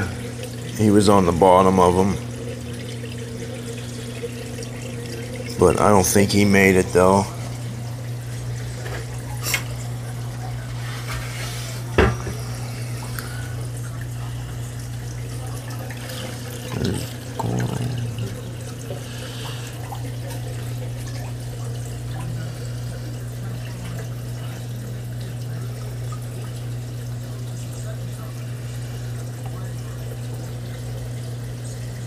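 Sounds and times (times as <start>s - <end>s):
water trickling: 0.0s - 10.8s, 11.8s - 32.0s
low pump hum: 0.0s - 32.0s.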